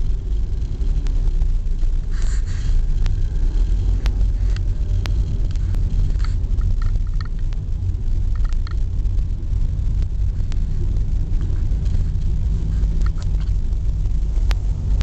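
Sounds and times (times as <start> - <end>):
car road and engine rumble: 0.0 - 15.0
faint clicks: 1.8 - 15.0.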